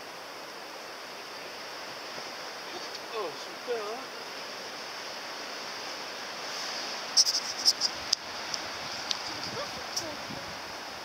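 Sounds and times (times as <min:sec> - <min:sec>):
wind hiss: 0:00.0 - 0:11.0.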